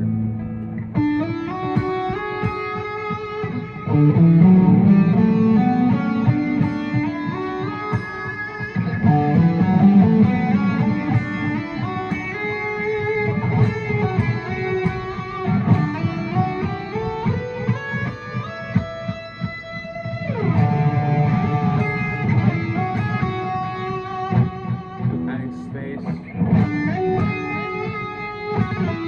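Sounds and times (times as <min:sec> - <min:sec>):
guitar melody: 0:00.0 - 0:29.0.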